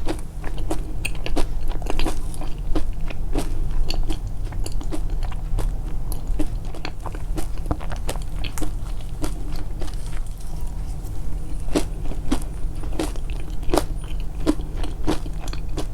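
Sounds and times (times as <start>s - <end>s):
chewing crunchy food: 0.0s - 15.9s.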